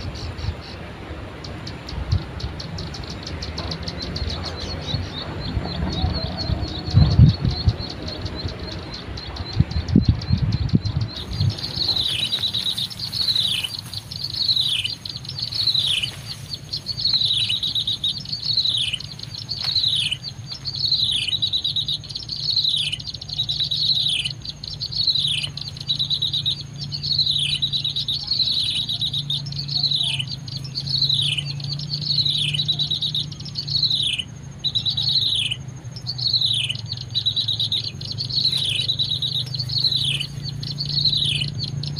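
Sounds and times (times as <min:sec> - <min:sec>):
bird chirping: 0:00.0 - 0:41.9.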